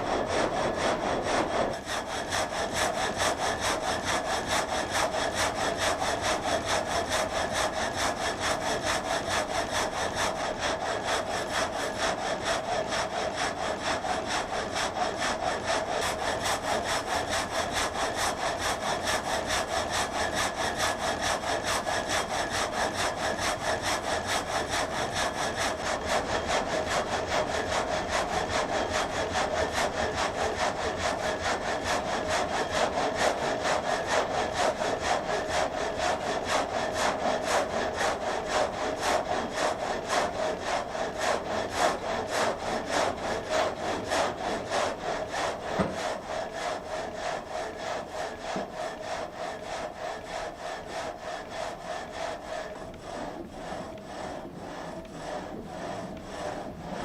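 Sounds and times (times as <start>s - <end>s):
frame saw cutting log: 0.0s - 57.0s.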